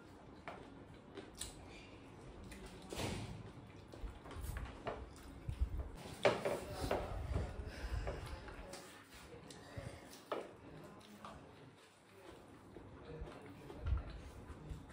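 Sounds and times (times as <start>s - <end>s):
small clicks of eating: 0.0s - 6.4s, 8.1s - 14.9s.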